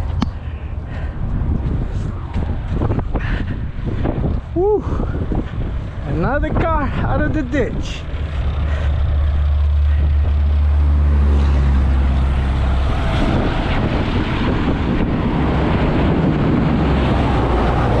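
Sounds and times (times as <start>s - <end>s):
broad rushing noise: 0.0s - 18.0s
vehicle engine droning: 0.0s - 18.0s.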